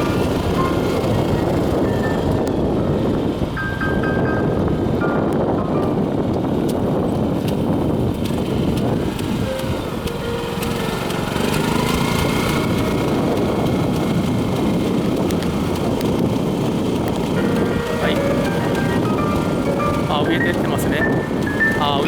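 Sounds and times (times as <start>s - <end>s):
rice transplanter engine running: 0.0s - 3.6s, 6.3s - 22.0s.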